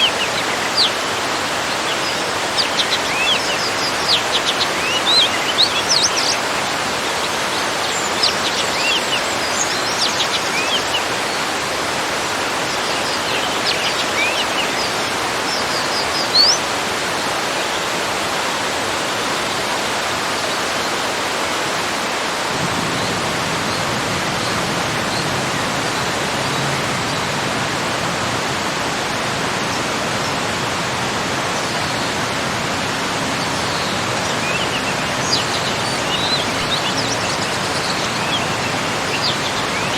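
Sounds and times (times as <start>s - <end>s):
songbirds chirping: 0.0s - 22.2s, 22.8s - 39.9s
deeper rushing water: 0.0s - 39.9s
small waterfall rushing: 0.0s - 39.9s.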